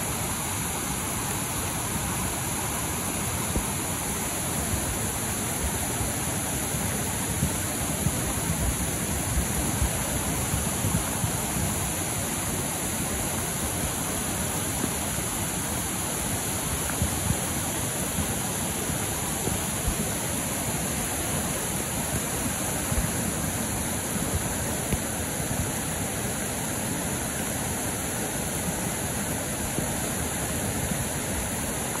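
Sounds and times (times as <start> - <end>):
flooded creek rushing over rocks: 0.0 - 32.0.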